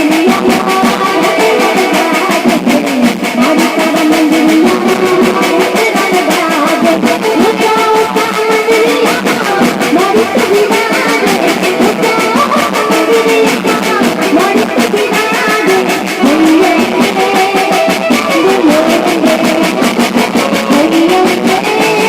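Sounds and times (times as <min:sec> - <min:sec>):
loud music with fast beat: 0:00.0 - 0:22.0.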